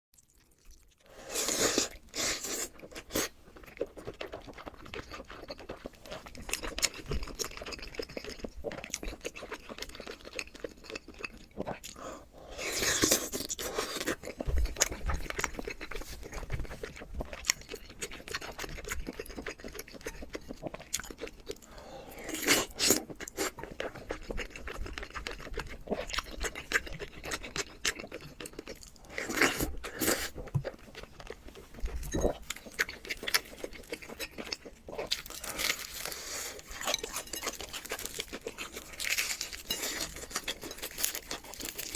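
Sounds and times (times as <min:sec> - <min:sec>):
crunchy chewing: 0:00.2 - 0:41.9.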